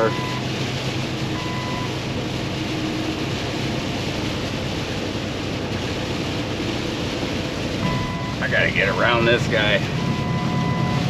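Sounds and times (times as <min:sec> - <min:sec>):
diesel truck engine running: 0:00.0 - 0:11.0
tyres hissing on wet road: 0:00.0 - 0:11.0.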